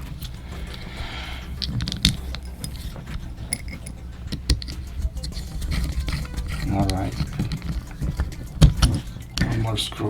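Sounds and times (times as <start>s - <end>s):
small parts clicking and clinking: 0.0s - 10.0s.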